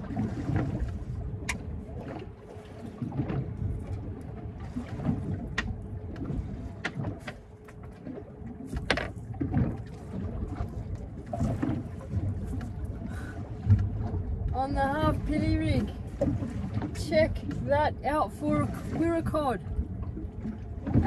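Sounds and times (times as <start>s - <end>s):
water washing against boat: 0.0s - 21.0s.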